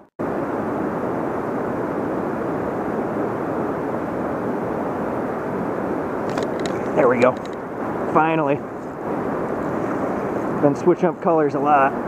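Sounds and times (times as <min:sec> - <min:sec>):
river current rushing: 0:00.2 - 0:12.0.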